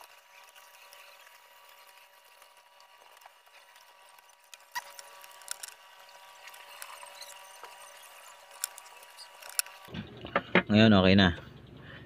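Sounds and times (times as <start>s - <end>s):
gloved hands rustling tape: 0.0s - 9.9s
faint steady hum: 0.0s - 12.0s.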